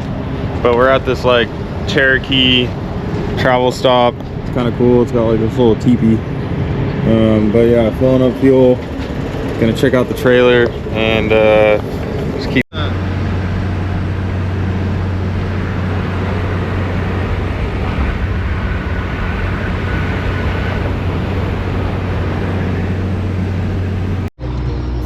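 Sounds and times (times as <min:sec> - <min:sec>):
low engine drone: 0:00.0 - 0:25.0.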